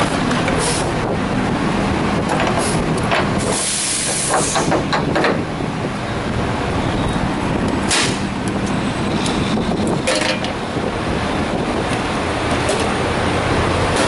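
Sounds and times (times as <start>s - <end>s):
diesel truck engines idling: 0.0s - 14.0s.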